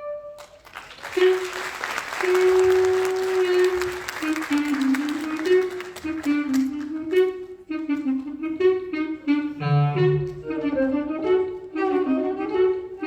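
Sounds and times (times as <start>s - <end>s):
instrumental melody: 1.0s - 13.0s.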